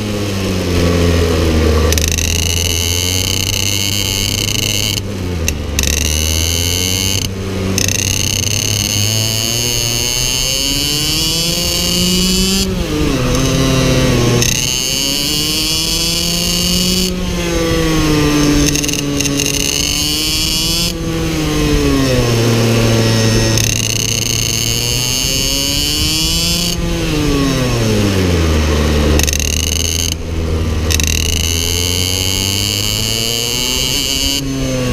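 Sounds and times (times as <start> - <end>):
kart engine revving: 0.0 - 34.9.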